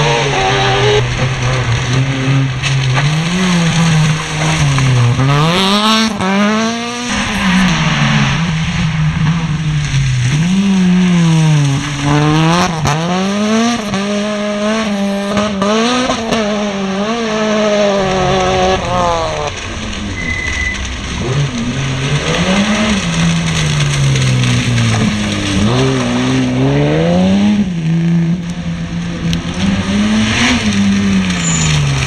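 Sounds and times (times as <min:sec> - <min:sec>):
car engines revving hard: 0:00.0 - 0:32.0.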